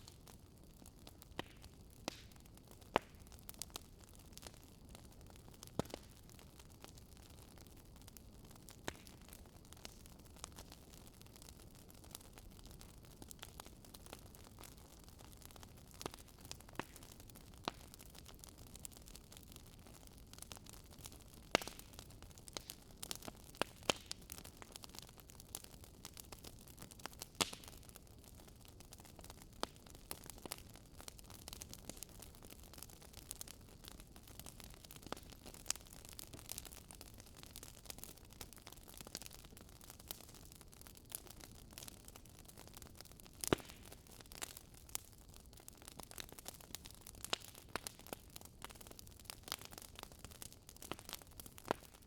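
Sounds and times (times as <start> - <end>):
firewood crackling and popping: 0.0 - 52.0.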